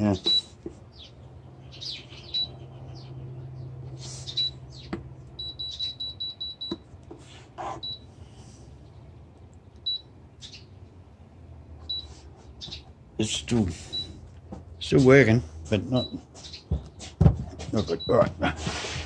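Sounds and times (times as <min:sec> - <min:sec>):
low fridge hum: 0:00.0 - 0:18.7.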